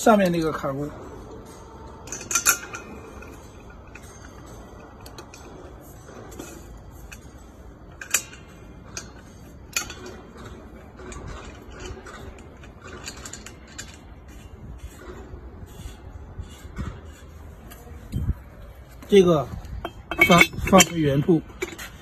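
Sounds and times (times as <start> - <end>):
metal clamp clicks and clinks: 0.1 - 18.6, 19.6 - 22.0.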